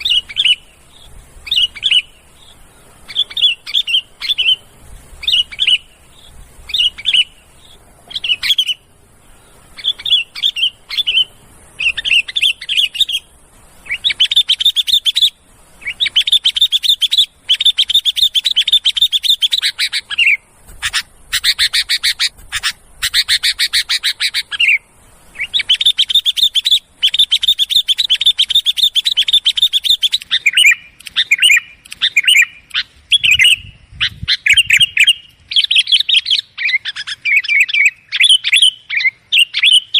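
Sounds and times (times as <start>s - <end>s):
bulbul calling: 0.0s - 39.9s.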